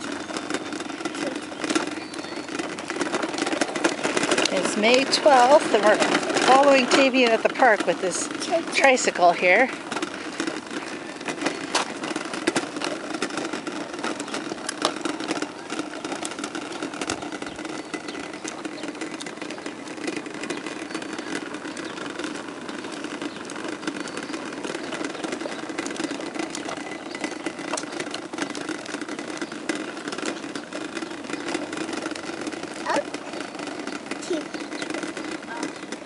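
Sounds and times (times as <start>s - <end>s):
plastic wheels rolling on asphalt: 0.0s - 36.0s
tricycle rattles and clicks: 0.0s - 36.0s.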